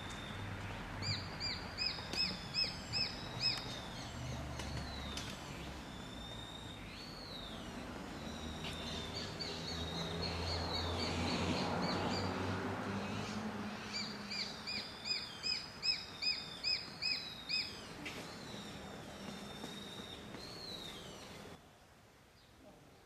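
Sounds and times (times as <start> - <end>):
sparrowhawk calling: 1.0 - 12.3, 13.2 - 21.6.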